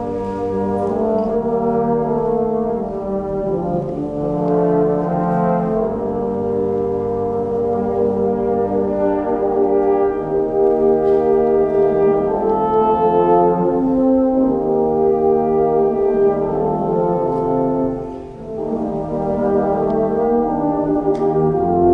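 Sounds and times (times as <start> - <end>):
wind band with sustained brass chords: 0.0 - 21.9.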